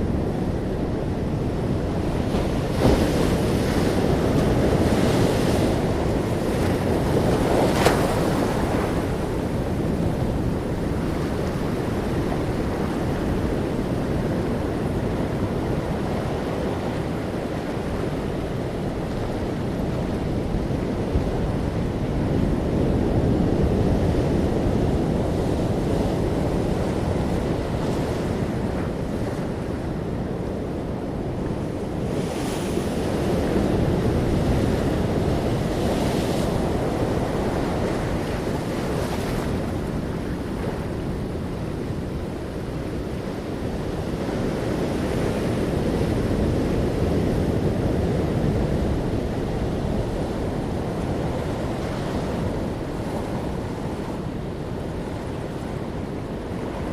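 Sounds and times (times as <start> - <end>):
ocean waves breaking: 0.0 - 56.9
wind on microphone: 0.0 - 56.9.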